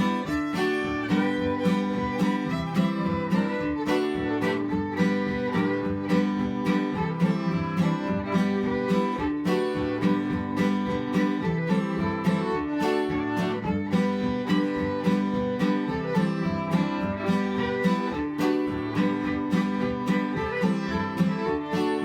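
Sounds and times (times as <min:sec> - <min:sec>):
fiddle: 0:00.0 - 0:22.0
picked acoustic guitar: 0:00.0 - 0:22.0.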